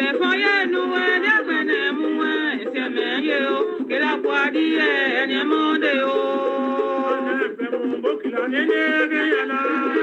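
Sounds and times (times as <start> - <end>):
choir singing: 1.5 - 10.0.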